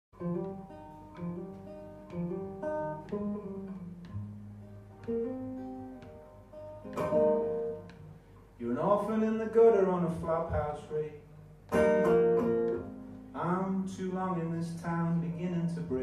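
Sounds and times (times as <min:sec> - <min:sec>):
acoustic guitar picking and strumming: 0:00.2 - 0:16.0.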